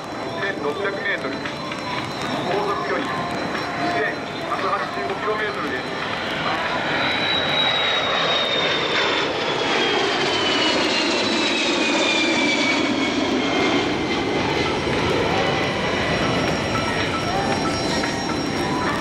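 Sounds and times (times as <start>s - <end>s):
jet aircraft passing with whine: 0.0s - 19.0s.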